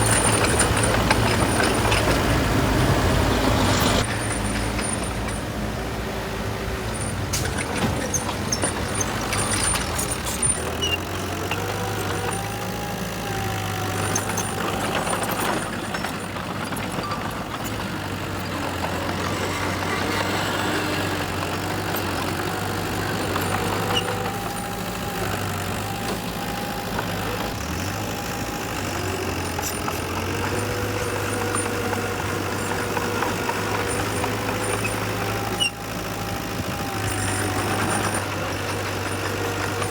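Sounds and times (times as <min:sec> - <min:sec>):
heavy machinery diesel engines running: 0:00.0 - 0:39.9.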